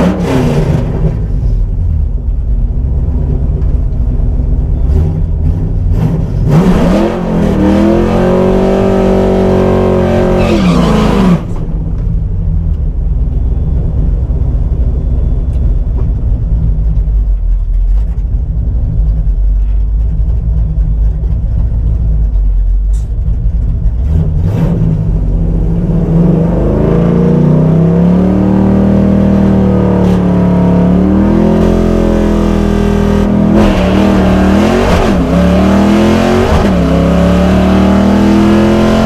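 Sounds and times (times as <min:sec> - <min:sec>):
car engine droning inside cabin: 0:00.0 - 0:39.0.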